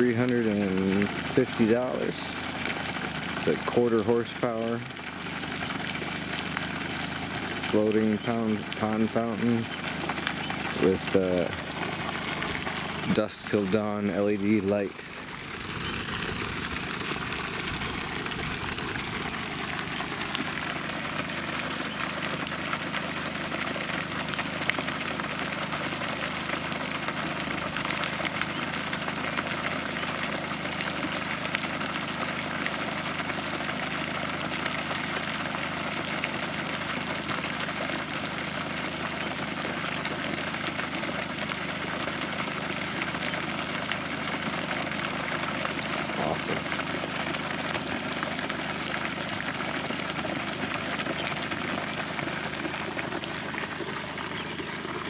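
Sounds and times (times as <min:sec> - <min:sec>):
fountain spray falling on water: 0:00.0 - 0:55.0.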